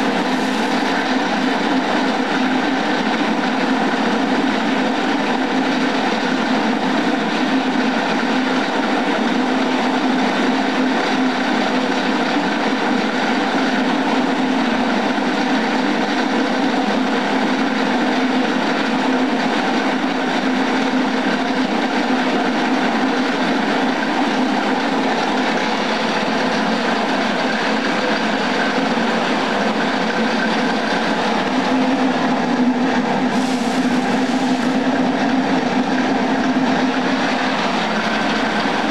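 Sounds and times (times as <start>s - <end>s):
dehulling machine mechanical noise: 0.0s - 38.9s.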